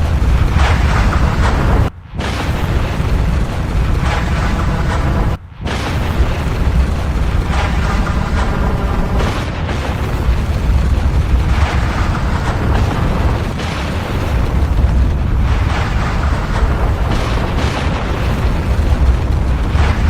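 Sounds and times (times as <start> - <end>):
volcano deep rumble: 0.0 - 20.0.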